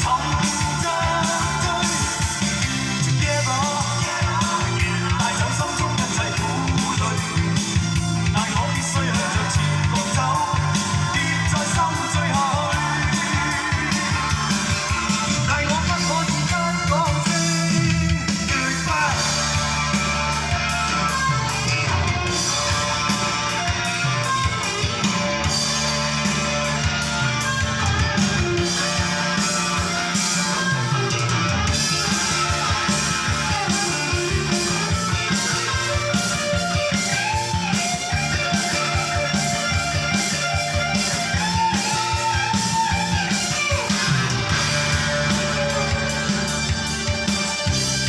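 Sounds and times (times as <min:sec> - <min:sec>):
band accompaniment: 0:00.0 - 0:48.0
bass line: 0:00.0 - 0:48.0
electric guitar lead: 0:00.0 - 0:48.0.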